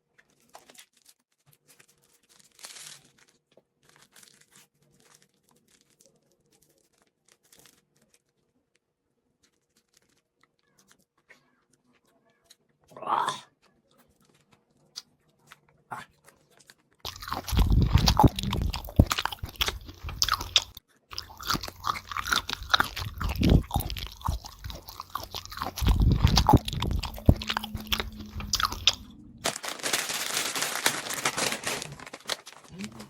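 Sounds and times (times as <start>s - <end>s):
crunching and chewing crisp food: 0.0s - 33.0s.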